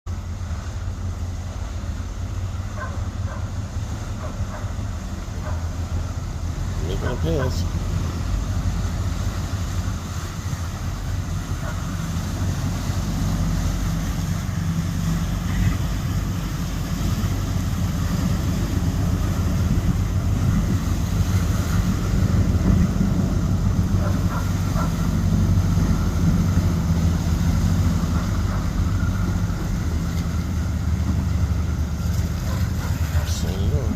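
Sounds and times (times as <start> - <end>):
churning water: 0.1 - 33.9
motorboat engines running: 0.1 - 33.9
wind buffeting microphone: 2.8 - 33.9.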